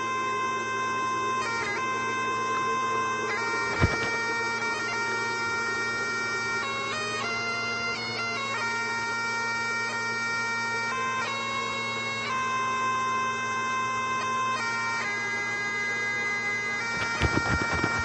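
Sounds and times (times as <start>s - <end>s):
bagpipe-like melody over drone: 0.0s - 18.0s.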